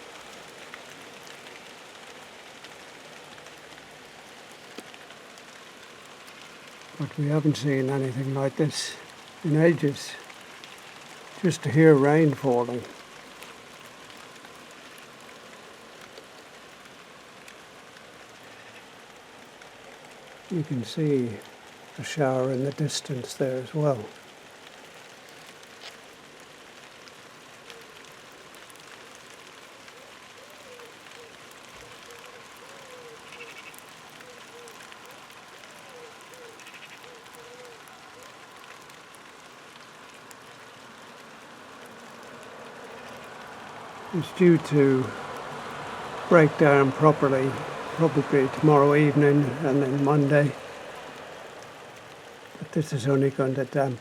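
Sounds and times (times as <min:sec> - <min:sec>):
light rain hissing: 0:00.0 - 0:54.0
raindrops pattering: 0:00.0 - 0:54.0.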